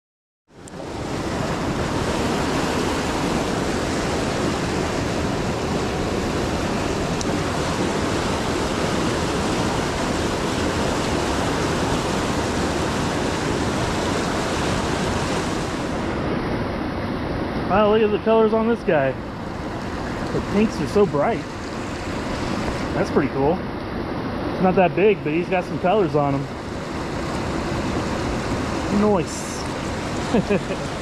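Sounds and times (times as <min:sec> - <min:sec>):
river rapids rushing over boulders: 0:00.6 - 0:31.0.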